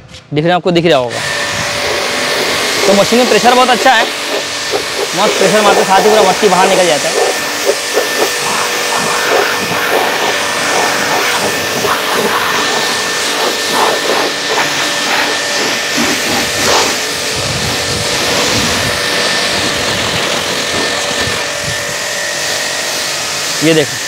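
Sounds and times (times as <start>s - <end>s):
pressure washer whine: 1.0s - 24.0s.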